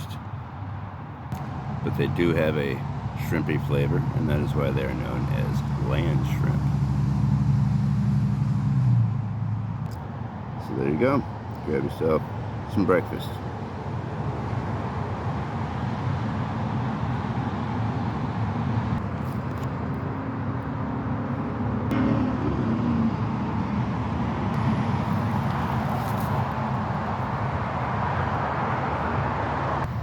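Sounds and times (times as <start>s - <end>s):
low rumble of distant traffic: 0.0s - 30.0s.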